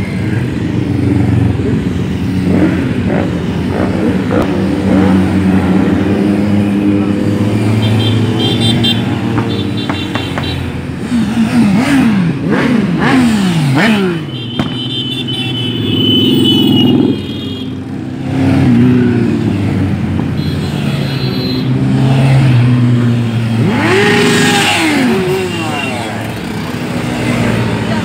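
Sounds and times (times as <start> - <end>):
motorcycle engines revving: 0.0 - 28.0
motorcycles riding past: 0.0 - 28.0.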